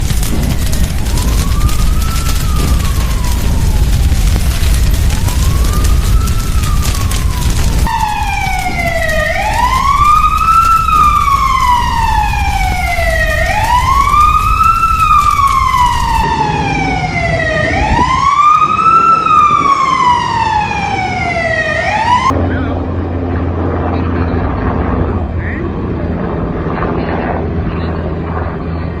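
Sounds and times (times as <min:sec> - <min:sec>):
siren wailing: 0:00.0 - 0:23.2
low rumble: 0:00.0 - 0:29.0.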